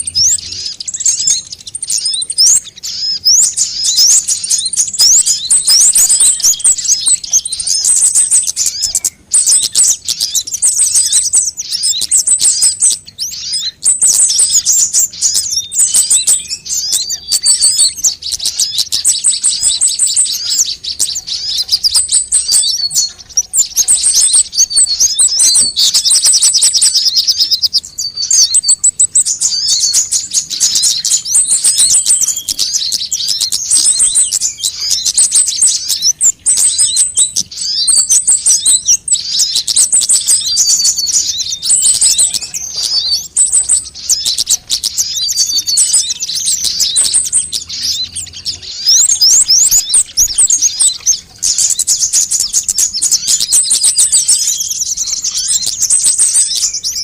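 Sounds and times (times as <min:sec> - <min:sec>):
sunbirds chirping and trilling: 0:00.0 - 0:57.0.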